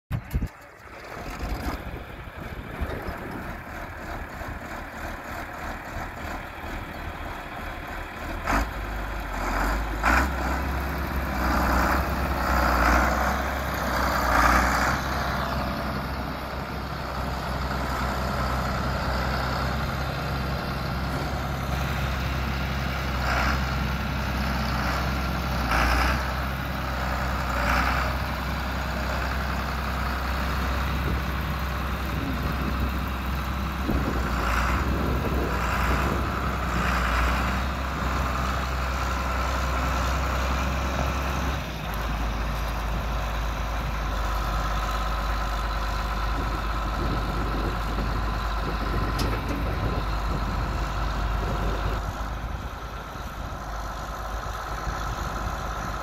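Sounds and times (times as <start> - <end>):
tractor diesel engine running: 0.1 - 56.0.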